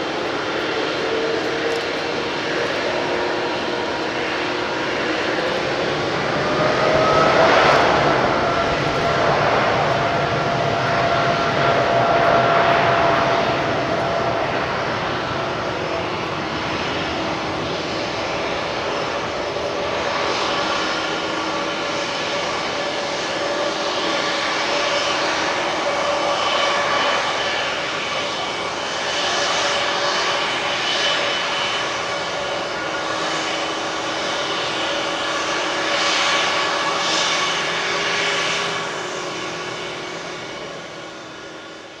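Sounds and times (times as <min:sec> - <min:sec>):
jet engines at takeoff thrust: 0:00.0 - 0:42.0.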